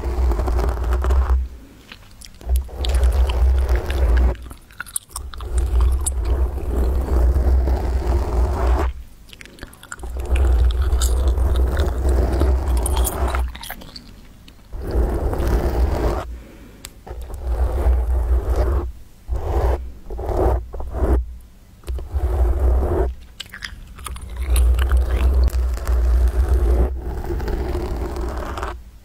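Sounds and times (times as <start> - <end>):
fingers scratching microphone: 0.0 - 16.3, 17.0 - 28.8.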